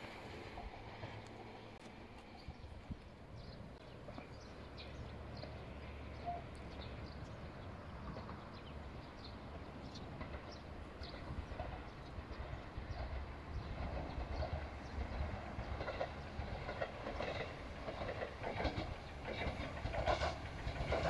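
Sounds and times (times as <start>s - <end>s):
birds chirping: 1.0s - 21.0s.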